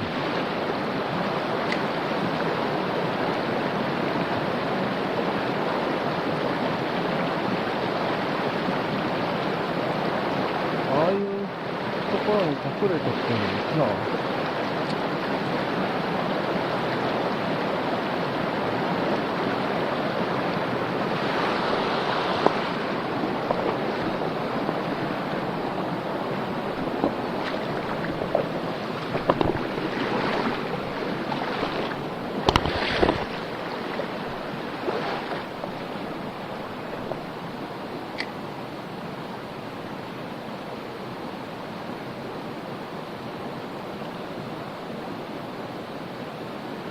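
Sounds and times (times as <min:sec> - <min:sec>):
mountain stream running: 0:00.0 - 0:46.9.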